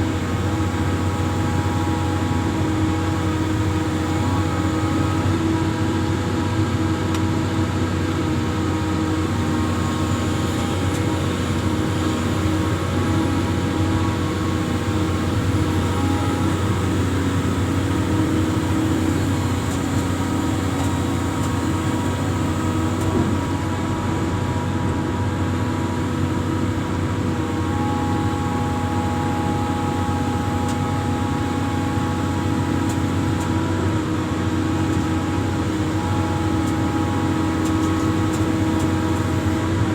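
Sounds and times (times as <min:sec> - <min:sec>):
excavator engine hum: 0:00.0 - 0:39.9.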